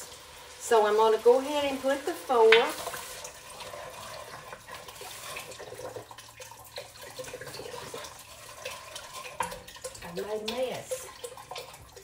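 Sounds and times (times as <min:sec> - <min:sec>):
broth pouring into a pot: 0:00.0 - 0:12.0.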